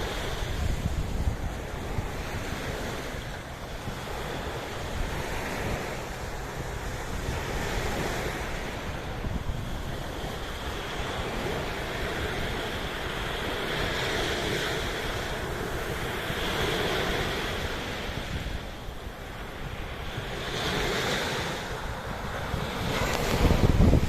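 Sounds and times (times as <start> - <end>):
sea waves washing in: 0.0 - 24.0
wind rumbling on microphone: 0.0 - 24.0.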